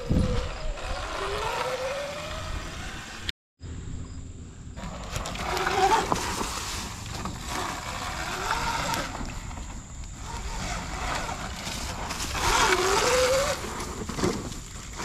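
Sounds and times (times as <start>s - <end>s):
electric dirt bike motor whining: 0.0s - 3.3s, 4.8s - 15.0s
tyres on dirt: 0.0s - 3.3s, 4.7s - 15.0s.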